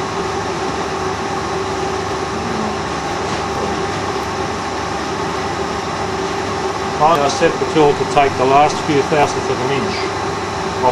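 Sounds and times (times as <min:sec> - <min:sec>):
metal lathe humming: 0:00.0 - 0:10.9.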